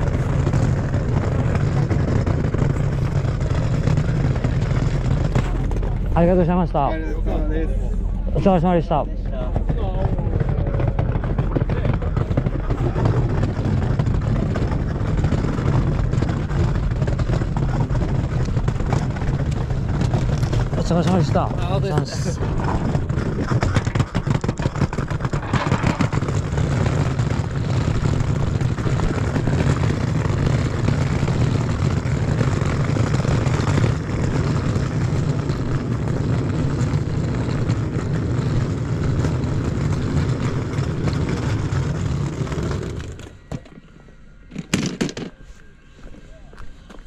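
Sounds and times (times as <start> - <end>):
vehicle engine rumble: 0.0 - 47.0.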